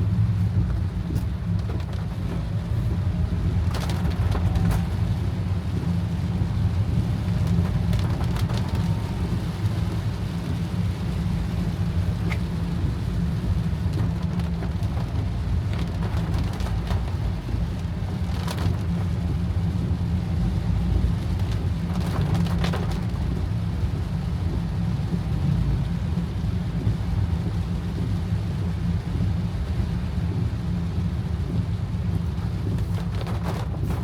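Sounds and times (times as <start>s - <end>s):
car engine and road noise: 0.0s - 34.0s
heavy rain on a car: 0.0s - 34.0s.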